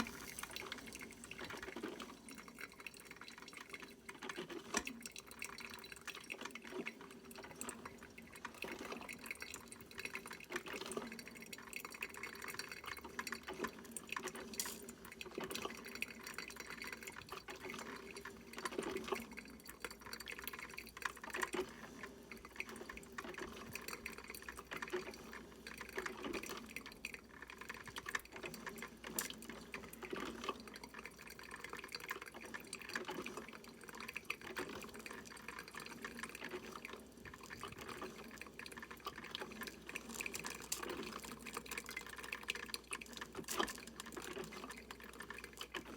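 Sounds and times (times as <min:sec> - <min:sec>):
coffee maker water spurting: 0:00.0 - 0:45.9.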